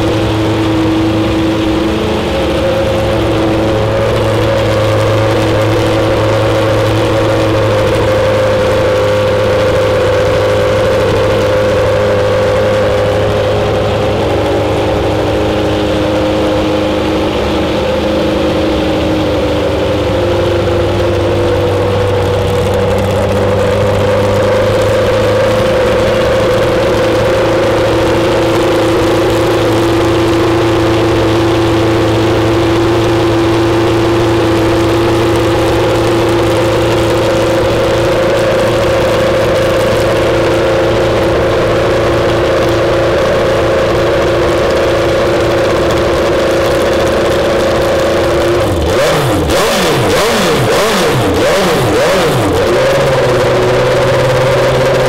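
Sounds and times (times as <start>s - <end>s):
race car engine idling: 0.0s - 55.0s.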